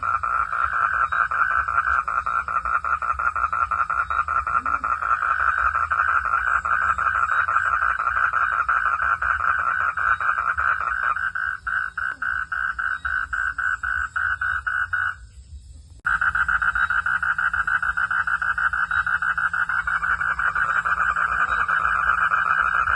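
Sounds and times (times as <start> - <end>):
frogs calling in chorus: 0.0 - 15.3, 16.0 - 22.9.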